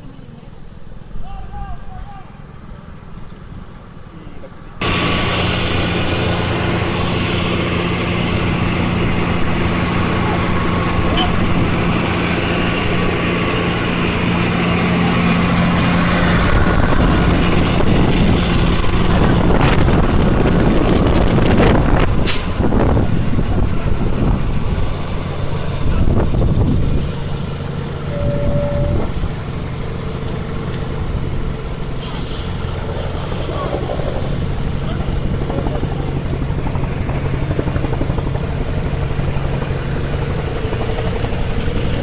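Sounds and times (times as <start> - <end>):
large vehicle engine running: 2.4 - 42.0.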